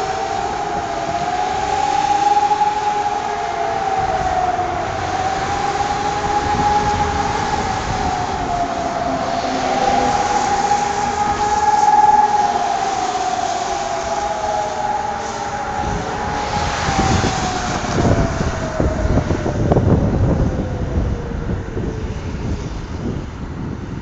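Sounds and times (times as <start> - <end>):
siren winding down: 0.0 - 22.9
low rumbling noise: 0.0 - 24.0.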